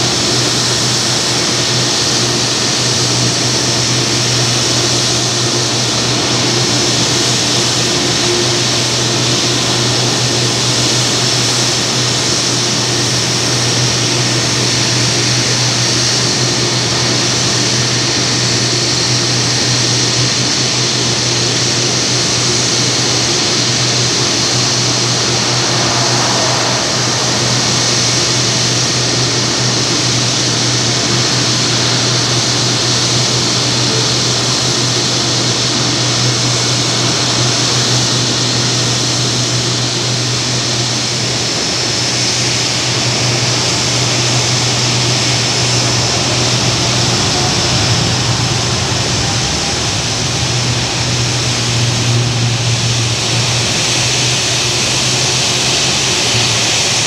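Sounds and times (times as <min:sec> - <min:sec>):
engine humming and hissing: 0:00.0 - 0:57.0.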